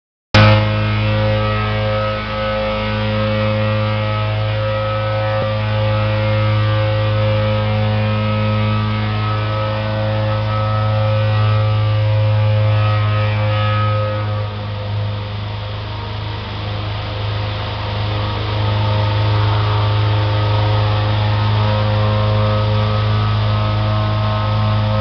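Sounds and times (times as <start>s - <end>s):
grain conveyor machine hum: 0.4s - 25.0s.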